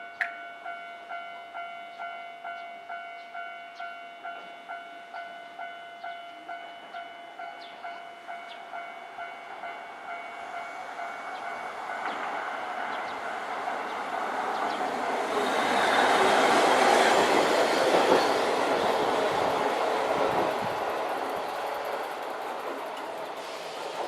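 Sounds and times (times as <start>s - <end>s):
tram running: 1.0s - 24.0s.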